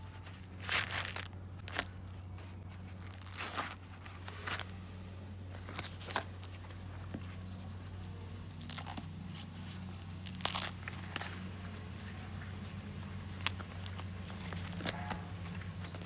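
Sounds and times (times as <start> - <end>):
corn husks ripping: 0.0 - 4.8, 5.5 - 6.9, 8.4 - 16.0
steady low hum: 0.0 - 16.0.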